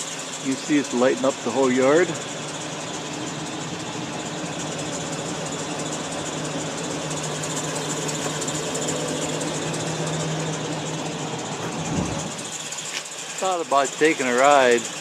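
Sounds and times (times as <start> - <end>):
steady engine hum: 0.0 - 15.0.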